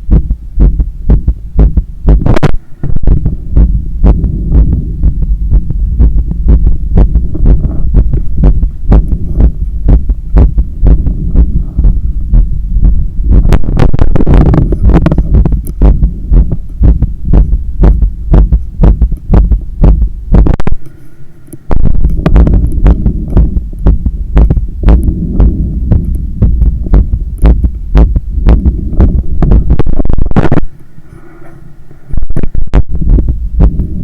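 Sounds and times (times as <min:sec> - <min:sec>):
fast pounding heartbeat: 0:00.0 - 0:20.8, 0:21.7 - 0:30.7, 0:32.3 - 0:34.0.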